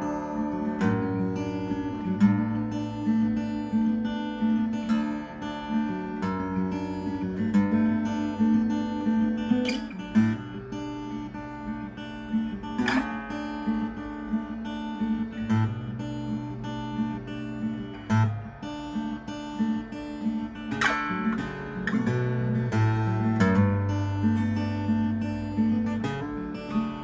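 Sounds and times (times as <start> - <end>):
acoustic guitar chords: 0.0 - 27.0.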